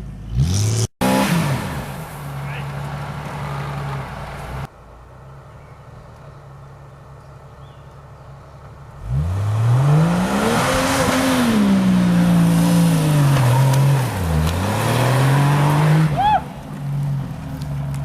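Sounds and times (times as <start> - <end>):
off-road engine revving: 0.0 - 4.7, 5.5 - 18.0.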